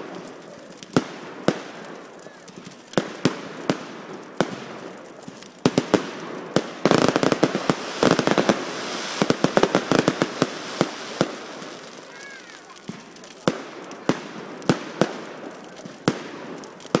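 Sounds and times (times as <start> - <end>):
firework shells bursting: 0.0 - 17.0
fireworks crackling: 0.0 - 17.0.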